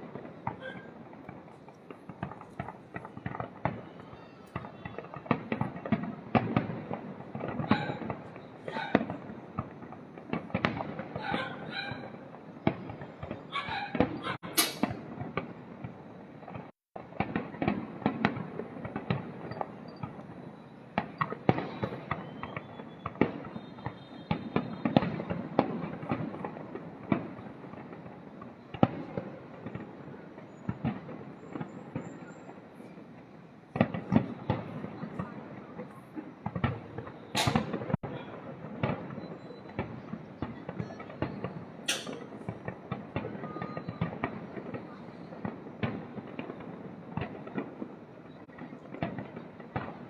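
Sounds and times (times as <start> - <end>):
fireworks bangs and booms: 0.0 - 50.0.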